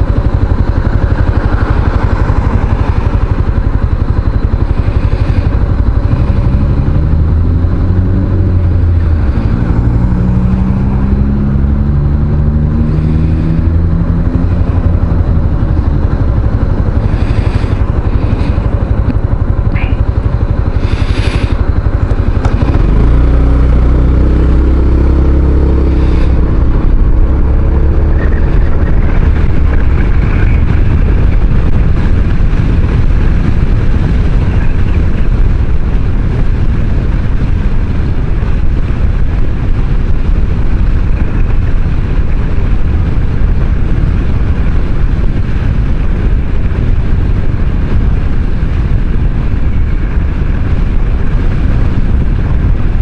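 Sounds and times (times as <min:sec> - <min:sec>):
scooter engine drone: 0:00.0 - 0:53.0
wind and road noise: 0:00.0 - 0:53.0.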